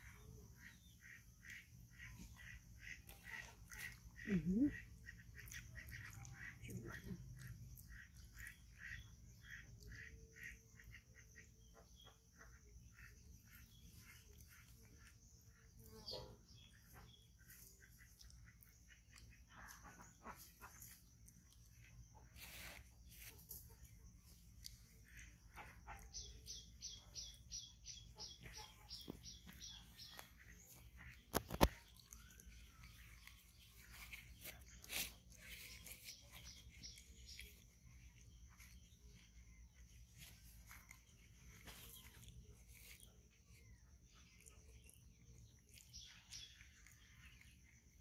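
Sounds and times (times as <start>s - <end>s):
small bird calling: 0.0s - 48.0s.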